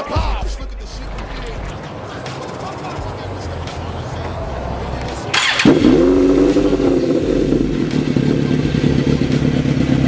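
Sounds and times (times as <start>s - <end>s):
motorcycle engine running: 1.1s - 10.0s.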